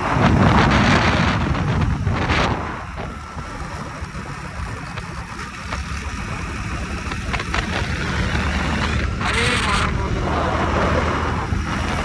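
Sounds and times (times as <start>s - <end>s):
vehicle low rumble: 0.0s - 12.0s
wind buffeting microphone: 0.0s - 12.0s.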